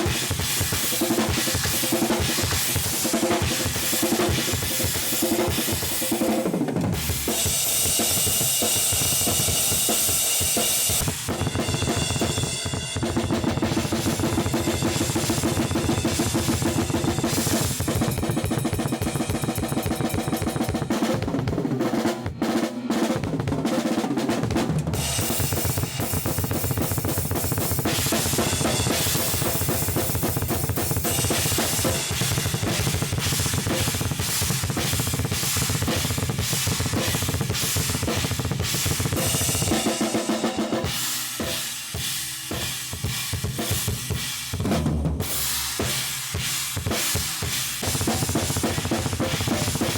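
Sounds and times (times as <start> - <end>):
drum kit playing: 0.0 - 49.9.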